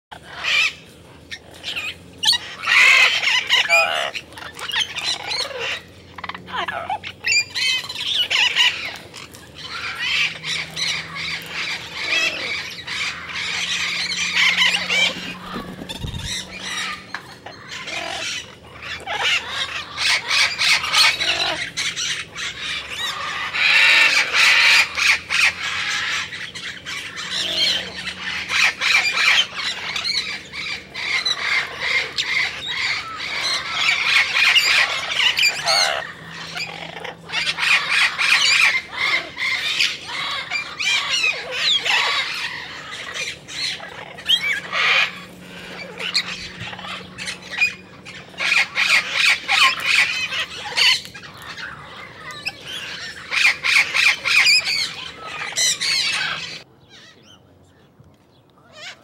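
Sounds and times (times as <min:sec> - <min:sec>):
cockatoos squawking: 0:00.1 - 0:57.4.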